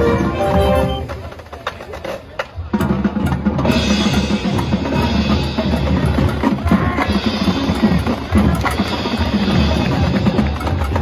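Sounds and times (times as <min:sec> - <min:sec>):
bass drums and snares: 0:00.0 - 0:11.0
marching band playing: 0:00.0 - 0:11.0.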